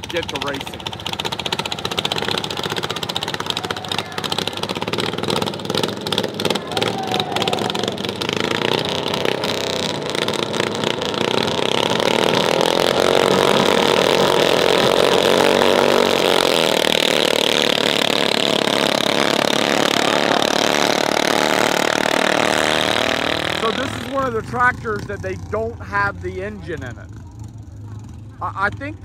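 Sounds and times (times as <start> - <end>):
tractor engine revving: 0.0 - 29.0.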